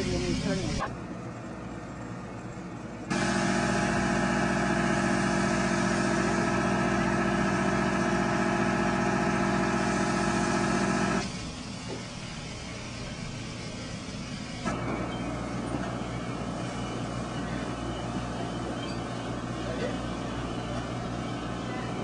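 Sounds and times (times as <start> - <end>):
steady engine-like drone: 0.0 - 22.0.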